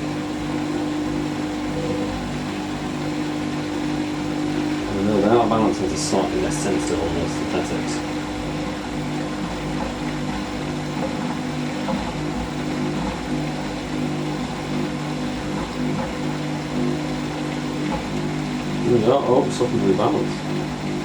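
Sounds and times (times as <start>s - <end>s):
washing machine drum humming: 0.0s - 21.0s.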